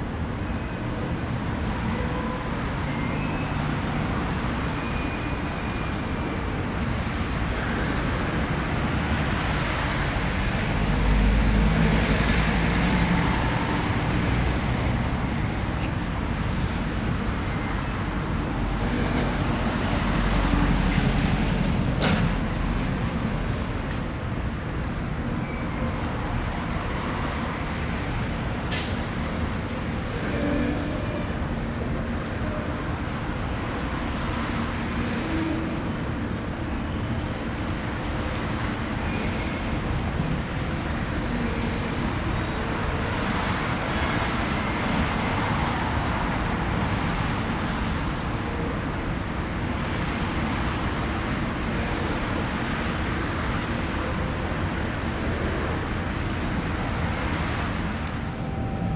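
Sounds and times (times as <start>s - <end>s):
road traffic noise: 0.0s - 58.9s.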